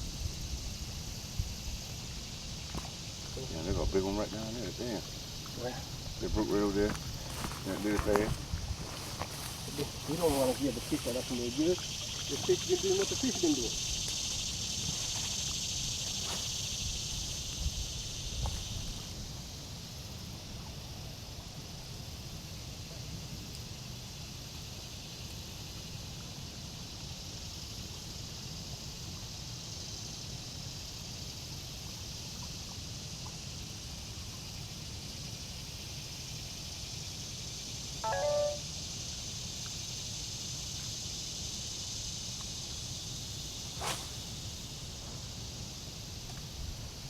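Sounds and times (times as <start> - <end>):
insect chorus buzzing: 0.0 - 47.0.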